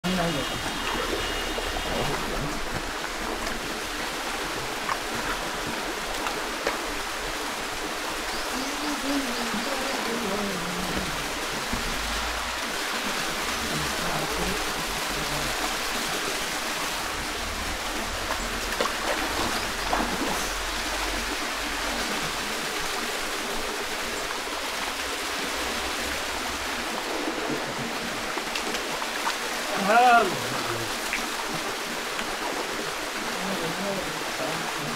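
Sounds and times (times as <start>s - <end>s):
waterfall rushing water: 0.0s - 34.9s.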